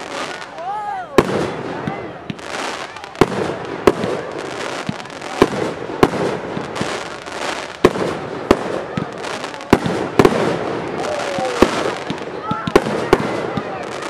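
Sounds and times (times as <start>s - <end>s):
fireworks bursting with sharp bangs: 0.0s - 14.0s.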